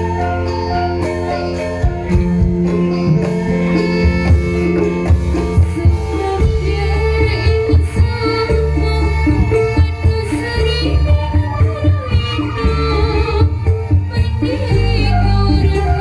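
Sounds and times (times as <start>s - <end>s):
bass line: 0.0s - 16.0s.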